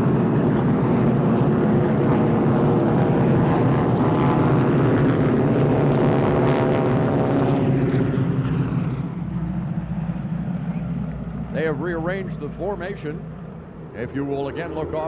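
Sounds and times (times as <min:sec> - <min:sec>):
propeller planes flying past: 0:00.0 - 0:15.0.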